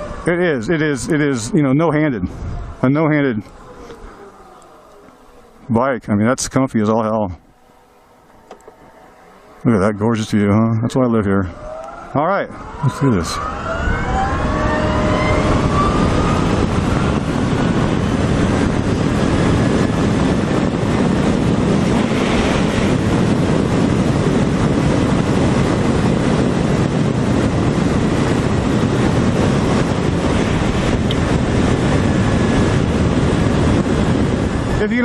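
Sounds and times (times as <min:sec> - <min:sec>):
wind rushing over microphone: 0:00.0 - 0:07.6, 0:08.8 - 0:35.0.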